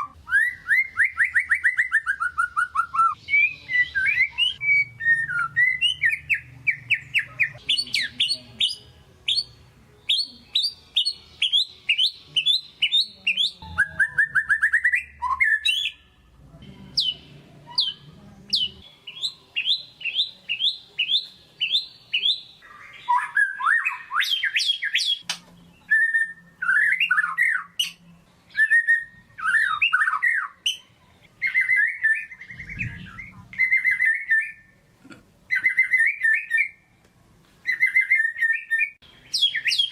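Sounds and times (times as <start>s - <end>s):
bird singing varied phrases: 0.0s - 34.9s, 35.5s - 37.0s, 37.6s - 39.9s.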